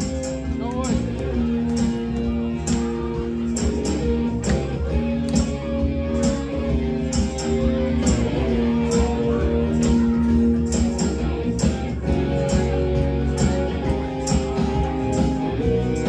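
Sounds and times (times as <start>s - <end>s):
rock band playing loudly: 0.0s - 16.0s.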